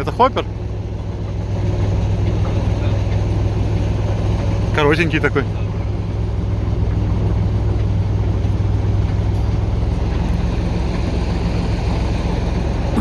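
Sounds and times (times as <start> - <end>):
locomotive diesel engine drone: 0.0 - 13.0.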